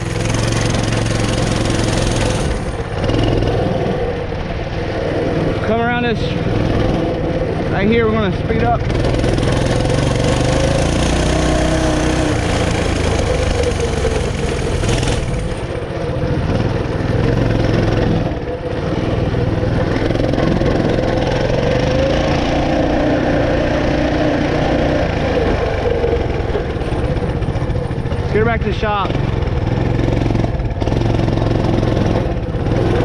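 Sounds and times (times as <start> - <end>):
mini bike engine running: 0.0 - 33.0.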